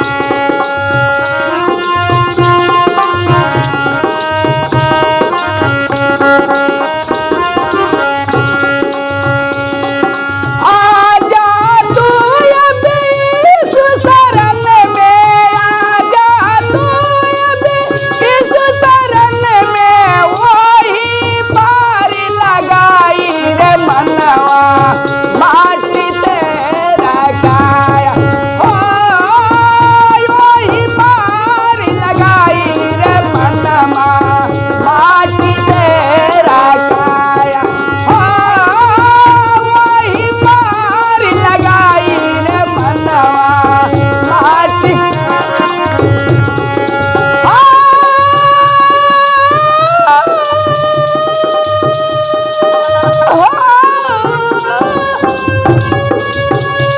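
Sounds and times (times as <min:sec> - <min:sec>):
instrumental melody: 0:00.0 - 0:56.9
regular drum beat: 0:00.0 - 0:56.9.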